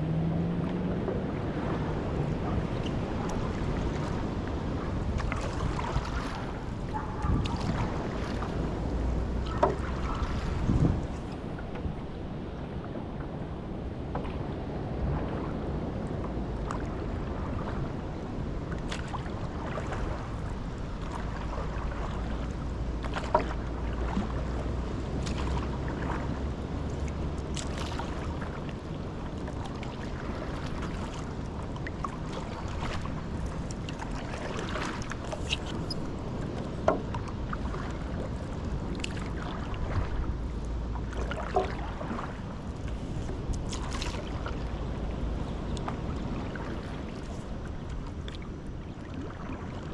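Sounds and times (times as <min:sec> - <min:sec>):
low steady rumble: 0:00.0 - 0:49.9
paddle strokes in water: 0:00.0 - 0:49.9.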